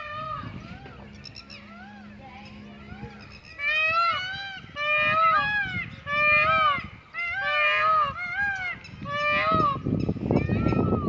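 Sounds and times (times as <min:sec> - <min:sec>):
peacocks honking calls: 0:00.0 - 0:11.0
wind rumbling on microphone: 0:00.0 - 0:11.0.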